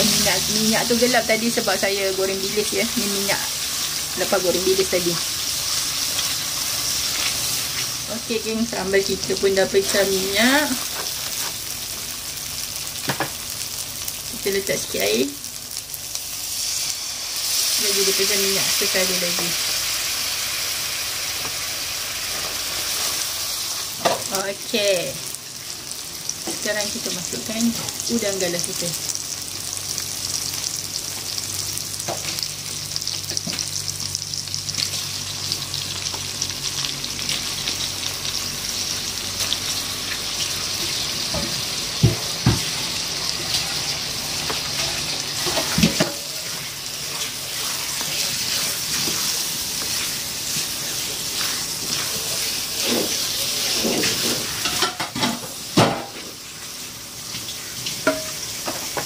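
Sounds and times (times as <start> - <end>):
chili paste sizzling in a pan: 0.0 - 59.0.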